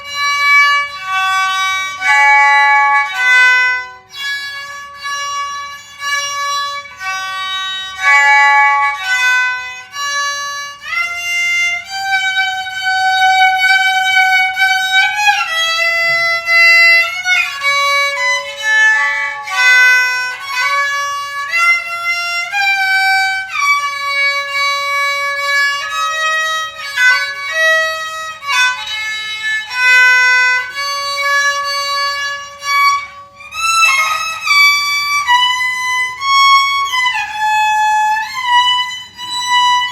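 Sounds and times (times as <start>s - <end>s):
bowed string instrument melody: 0.0s - 39.9s.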